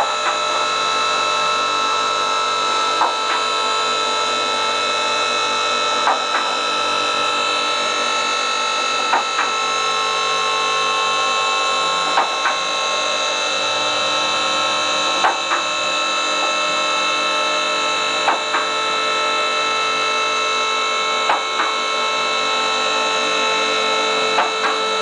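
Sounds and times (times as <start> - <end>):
hydraulic lift motor running: 0.0 - 25.0.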